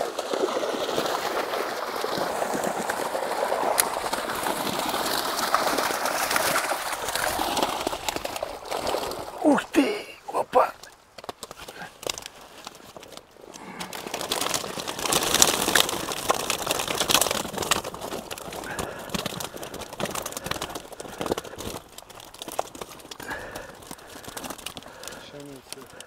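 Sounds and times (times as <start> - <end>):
fish flapping and slapping: 0.0 - 26.0
wet mesh rustling: 1.9 - 26.0.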